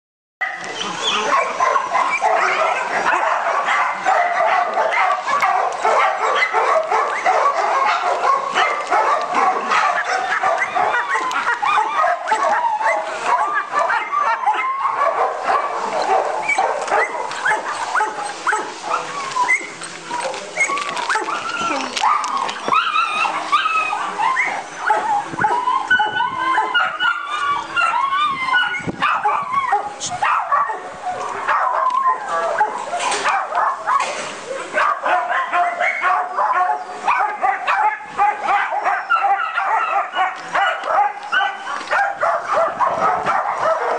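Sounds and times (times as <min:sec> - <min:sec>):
small dogs yipping and whining: 0:00.4 - 0:04.3, 0:05.0 - 0:15.1, 0:15.9 - 0:34.7, 0:35.3 - 0:43.9
dog barking: 0:00.4 - 0:19.1, 0:24.8 - 0:28.0, 0:29.0 - 0:43.9.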